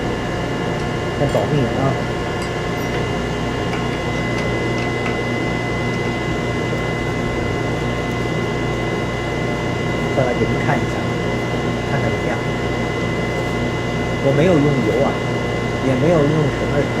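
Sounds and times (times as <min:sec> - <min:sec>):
wood lathe motor hum: 0:00.0 - 0:17.0.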